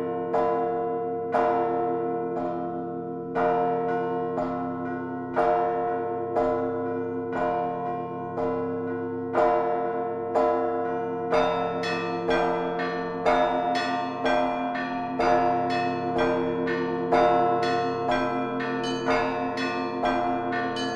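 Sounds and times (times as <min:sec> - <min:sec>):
church bell strikes: 0:00.0 - 0:20.9
hum of ringing bells: 0:00.0 - 0:20.9.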